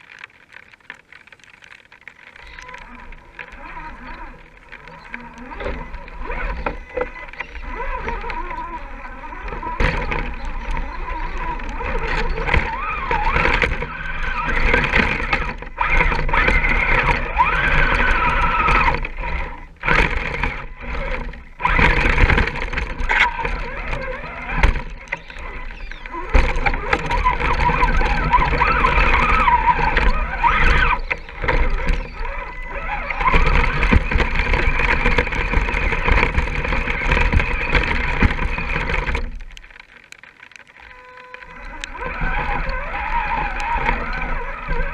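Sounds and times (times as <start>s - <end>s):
electric motor and gears whining: 0.0s - 44.9s.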